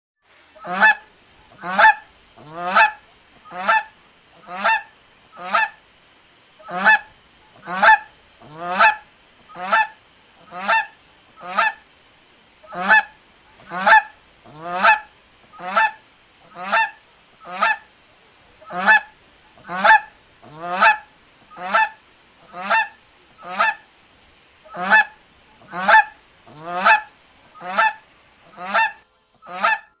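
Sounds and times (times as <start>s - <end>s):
goose honking: 0.6s - 5.8s, 6.6s - 11.8s, 12.6s - 17.9s, 18.6s - 23.8s, 24.7s - 30.0s.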